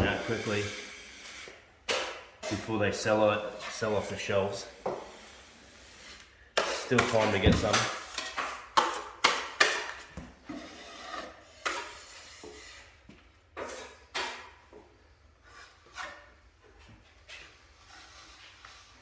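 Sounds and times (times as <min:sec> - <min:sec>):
drywall tools scraping compound: 0:00.0 - 0:19.0.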